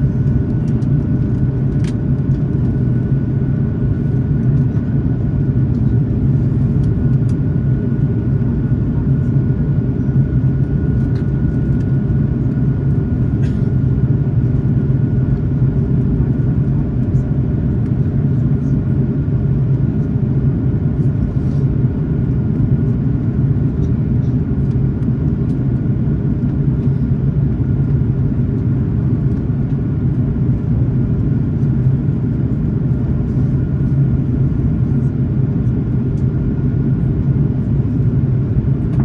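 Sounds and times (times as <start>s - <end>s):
aircraft engines rumbling: 0.0s - 39.0s.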